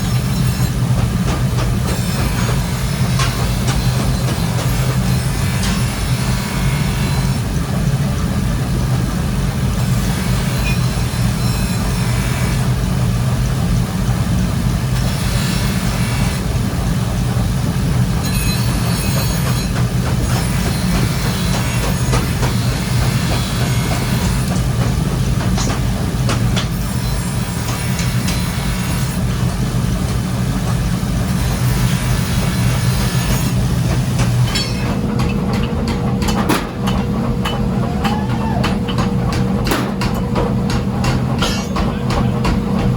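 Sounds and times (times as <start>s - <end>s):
workshop machinery droning: 0.0s - 42.9s.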